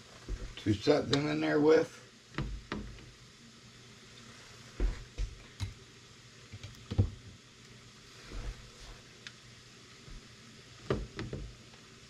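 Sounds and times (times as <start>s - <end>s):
steaming pot hiss: 0.0s - 12.0s.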